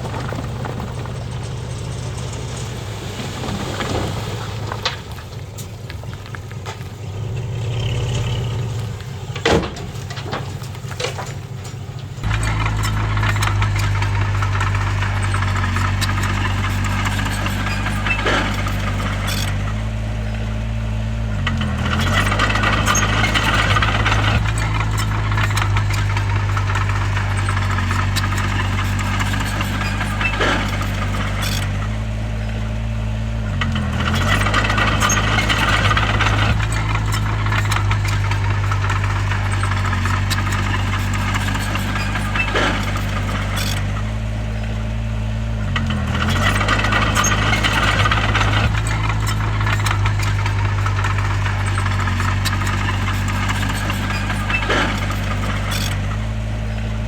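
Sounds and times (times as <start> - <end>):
bulldozer diesel engine running: 0.0 - 57.0
rattling and clatter: 0.0 - 57.0.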